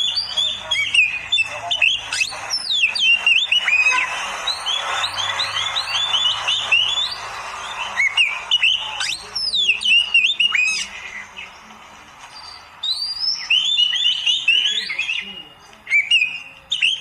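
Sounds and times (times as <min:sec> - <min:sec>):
magpie-robin singing: 0:00.0 - 0:17.0.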